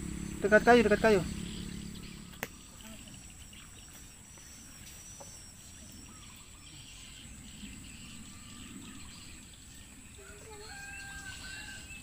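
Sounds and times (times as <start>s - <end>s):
bird chirps: 0.0s - 12.0s
high-pitched insect drone: 0.0s - 12.0s.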